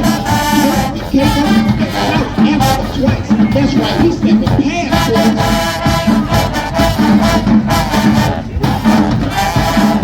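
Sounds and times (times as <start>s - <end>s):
brass horns playing chords: 0.0s - 10.0s
steady drum beat: 0.0s - 10.0s.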